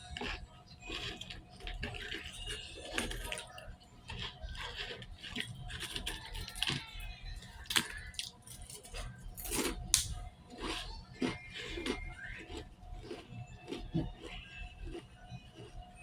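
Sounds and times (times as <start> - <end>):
chewing clicks and smacks: 0.0 - 15.9.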